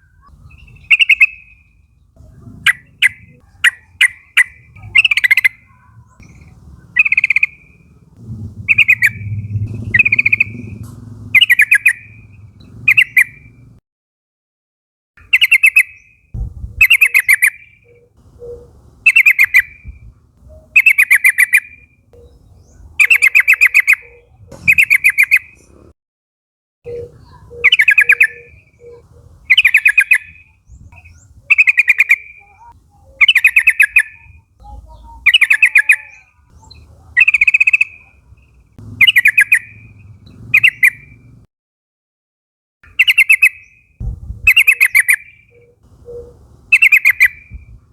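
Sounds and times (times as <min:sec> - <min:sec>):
bulbul chattering song: 0:00.0 - 0:13.8, 0:15.2 - 0:25.9, 0:26.9 - 0:41.5, 0:42.8 - 0:47.9.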